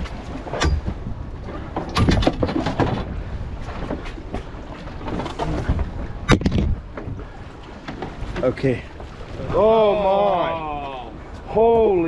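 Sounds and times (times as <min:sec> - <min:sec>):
low rumbling: 0:00.0 - 0:12.0
wind buffeting microphone: 0:00.0 - 0:12.0.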